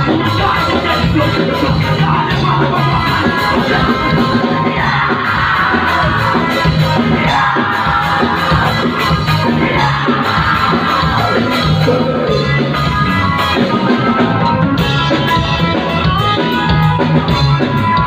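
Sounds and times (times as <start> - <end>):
drums: 0.0 - 18.0
electric guitar: 0.0 - 18.0
live rock band playing: 0.0 - 18.0.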